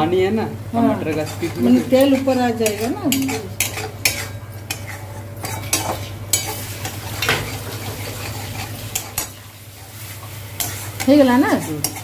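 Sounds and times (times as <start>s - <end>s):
frying sizzle: 0.0s - 12.0s
spatula scraping metal pan: 1.0s - 12.0s.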